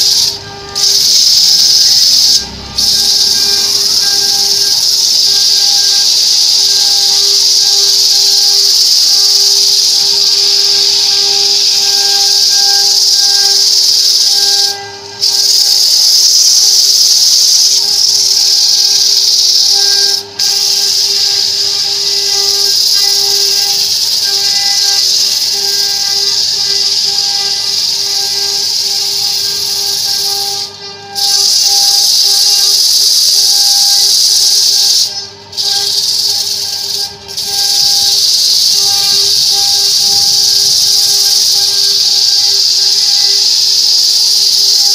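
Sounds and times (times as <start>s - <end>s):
hiss of wood cutting: 0.0s - 44.9s
lathe humming: 0.0s - 44.9s.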